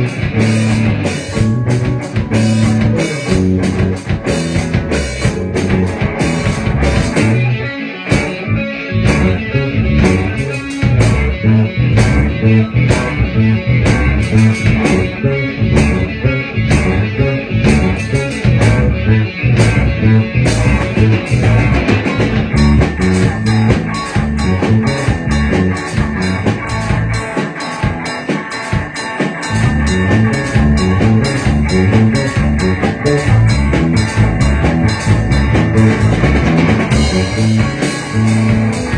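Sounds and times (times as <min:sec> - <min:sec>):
drum strokes: 0:00.0 - 0:38.9
rock band playing: 0:00.0 - 0:38.9.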